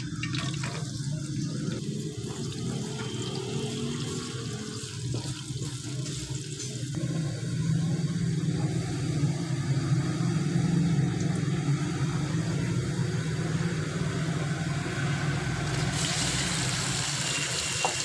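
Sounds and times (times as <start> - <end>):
onions sizzling in hot oil: 0.0 - 11.8, 14.2 - 18.0.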